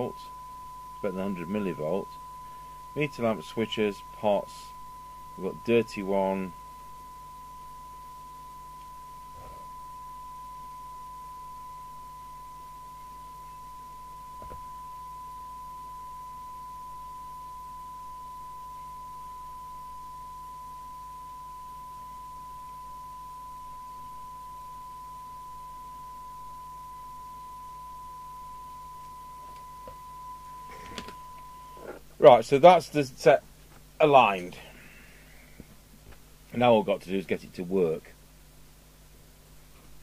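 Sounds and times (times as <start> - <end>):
steady test tone: 0.0 - 33.4.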